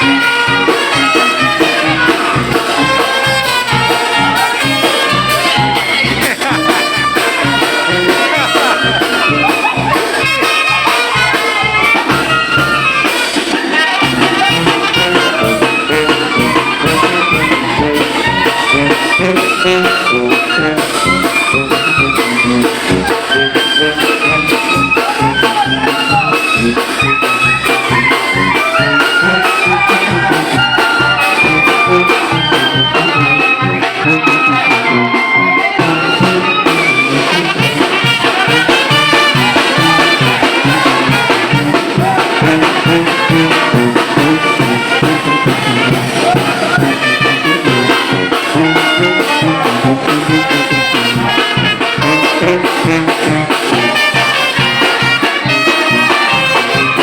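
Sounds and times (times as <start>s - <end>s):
brass band playing: 0.0s - 57.0s
steady drum beat: 0.0s - 57.0s.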